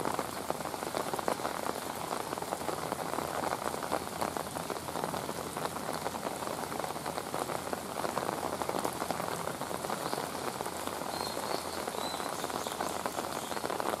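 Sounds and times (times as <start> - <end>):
rain on rock and ground: 0.0 - 14.0.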